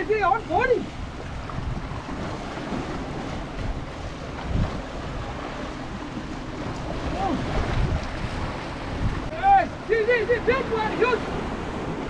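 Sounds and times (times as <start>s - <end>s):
sea waves washing against rocks: 0.0s - 12.0s
wind buffeting microphone: 0.0s - 12.0s.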